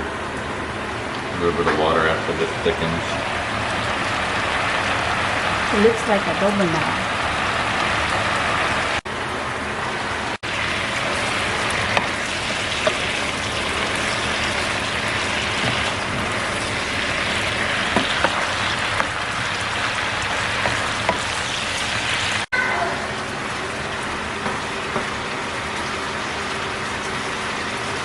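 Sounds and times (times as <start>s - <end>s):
food sizzling in a pan: 2.7s - 9.0s, 10.4s - 28.0s.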